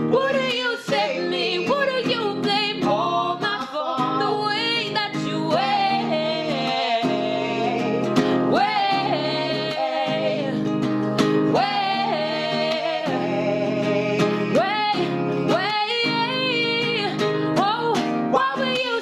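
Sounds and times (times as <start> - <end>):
acoustic guitar: 0.0 - 19.0
woman singing: 0.0 - 19.0.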